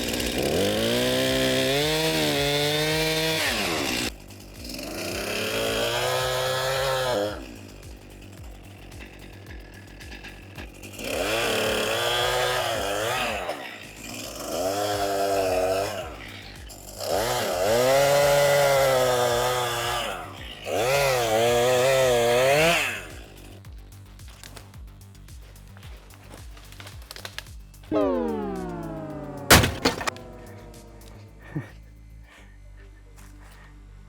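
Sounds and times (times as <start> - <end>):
chainsaw revving and cutting wood: 0.0 - 33.7.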